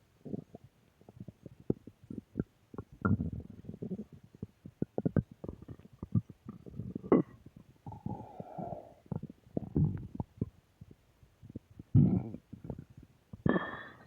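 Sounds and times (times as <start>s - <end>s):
stomach growling: 0.2s - 14.0s.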